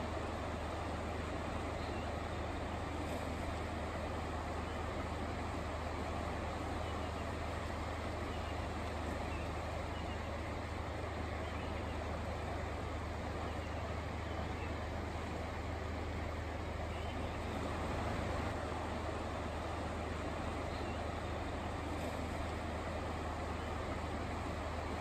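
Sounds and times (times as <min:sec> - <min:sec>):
constant low hum: 0:00.0 - 0:25.0
fast-flowing river rushing: 0:00.0 - 0:25.0.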